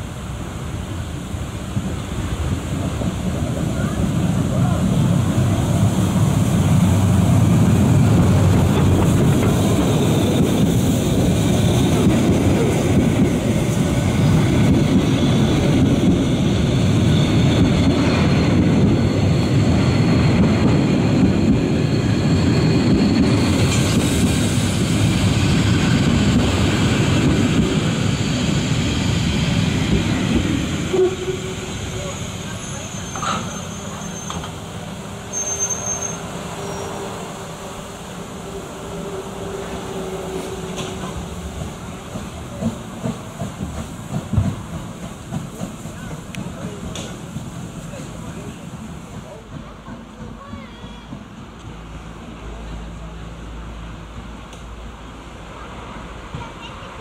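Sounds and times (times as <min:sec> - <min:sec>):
steam train wheels rumbling on rails: 0:00.0 - 0:57.0.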